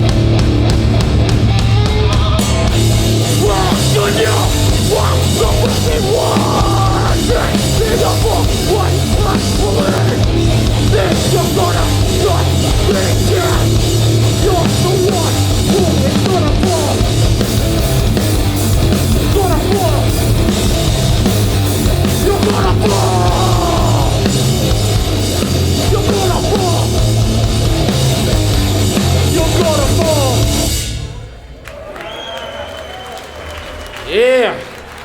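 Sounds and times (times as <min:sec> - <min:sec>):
punk band playing live: 0:00.0 - 0:31.6.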